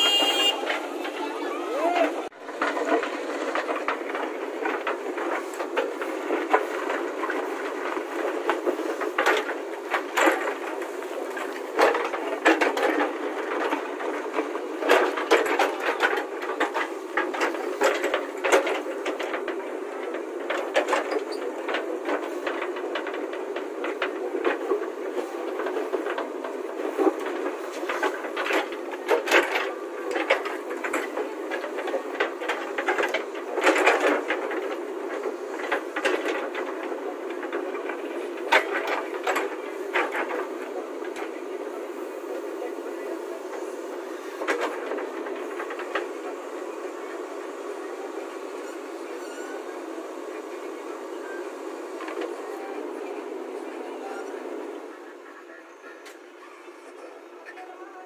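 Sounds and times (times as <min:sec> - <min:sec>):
backhoe engine running: 0:00.0 - 0:55.4.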